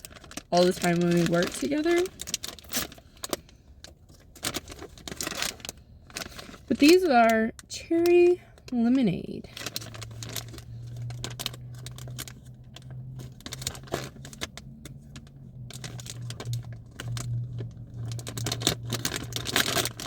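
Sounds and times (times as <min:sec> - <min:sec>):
plastic bag crinkling and tearing: 0:00.0 - 0:20.0.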